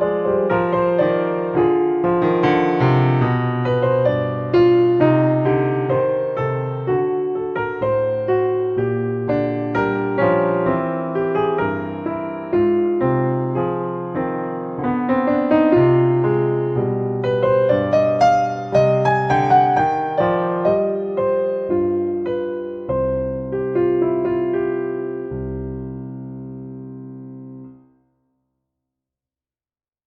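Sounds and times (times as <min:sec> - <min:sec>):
slow piano melody: 0:00.0 - 0:27.9.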